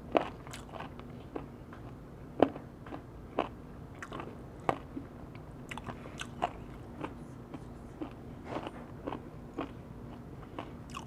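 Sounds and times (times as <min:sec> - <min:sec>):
crunchy chewing: 0:00.1 - 0:11.0.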